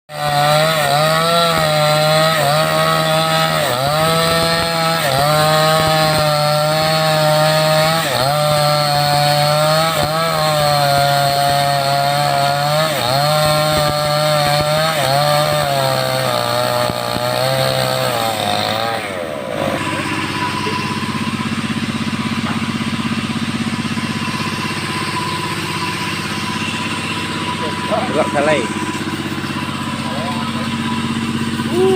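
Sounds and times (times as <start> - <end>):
chainsaw cutting log: 0.1 - 31.9.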